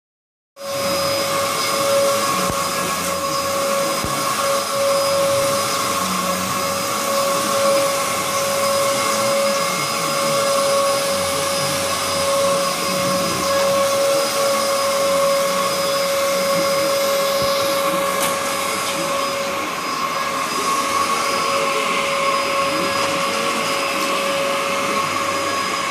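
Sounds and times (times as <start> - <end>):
vacuum cleaner motor whine: 0.6 - 25.9.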